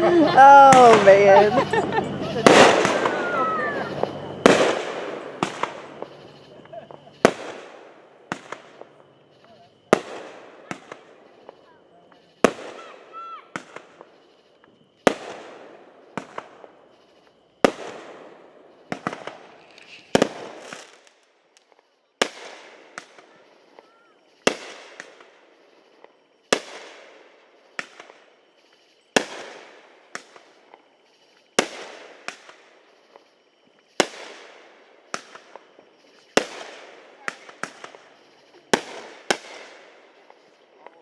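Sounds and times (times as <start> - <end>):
fireworks banging: 0.0 - 41.0
small firework pops: 2.3 - 41.0.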